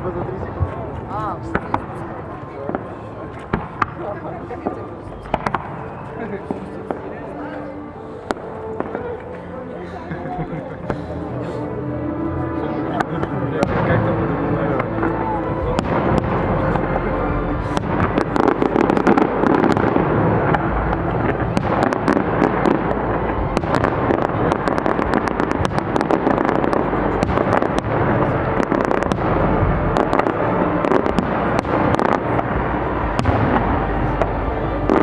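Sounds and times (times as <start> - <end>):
fireworks bangs and crackling: 0.0 - 7.4, 12.5 - 35.0.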